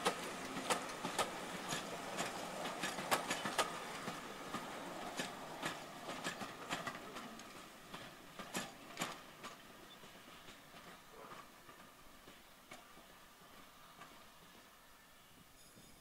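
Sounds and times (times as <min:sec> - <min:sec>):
train wheels clickety-clack: 0:00.0 - 0:16.0.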